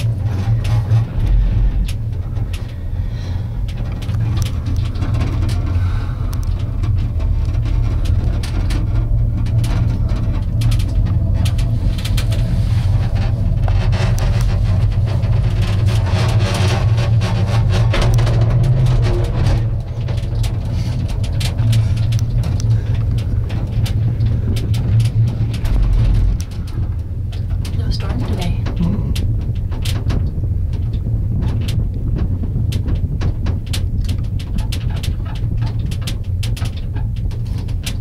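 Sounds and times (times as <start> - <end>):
clicks and rattles: 0.0 - 38.0
gondola cabin rumbling: 0.0 - 38.0.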